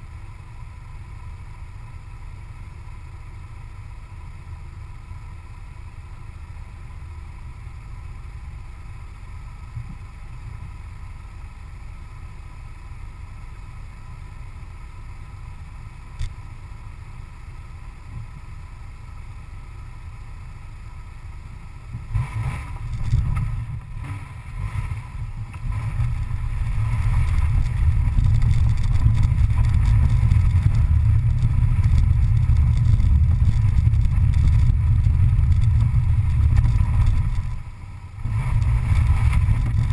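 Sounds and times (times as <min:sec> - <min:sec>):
road and wind noise: 0:00.0 - 0:39.9
vehicle engine rumble: 0:00.0 - 0:39.9.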